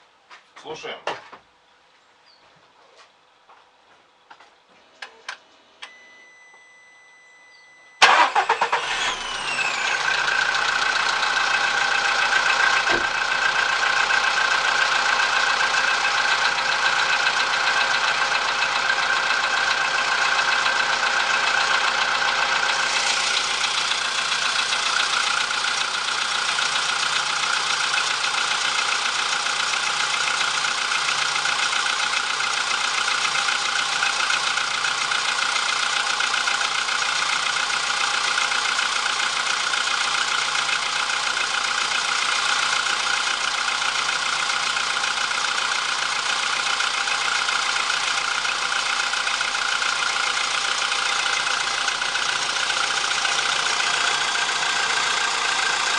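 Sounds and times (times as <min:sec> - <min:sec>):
car engine idling: 0:08.0 - 0:55.9.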